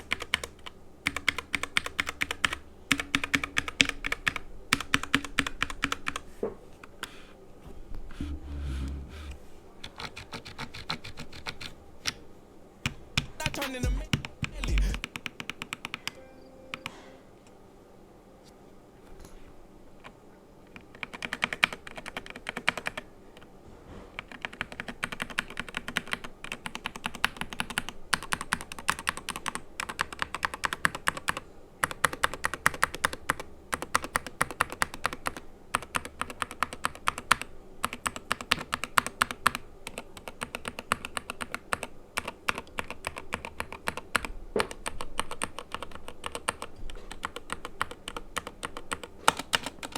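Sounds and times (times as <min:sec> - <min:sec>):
keyboard typing: 0:00.0 - 0:06.3, 0:08.2 - 0:12.2, 0:12.8 - 0:17.1, 0:20.7 - 0:23.0, 0:24.2 - 0:49.9.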